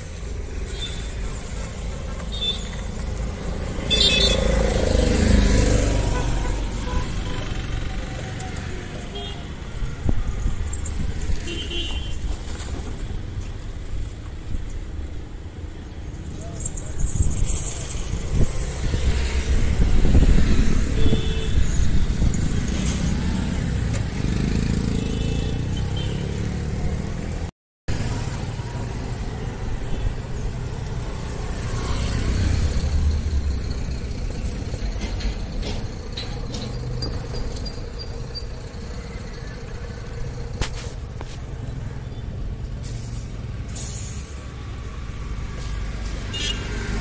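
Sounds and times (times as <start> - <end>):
road traffic passing: 0.0 - 47.0.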